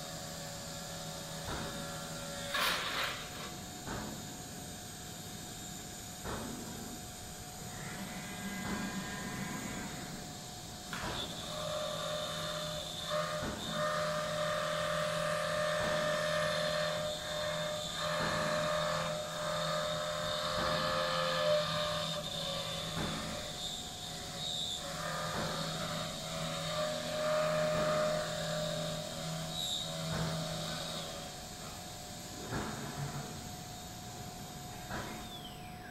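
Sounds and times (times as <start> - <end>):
cnc machine whine: 0.0 - 35.9.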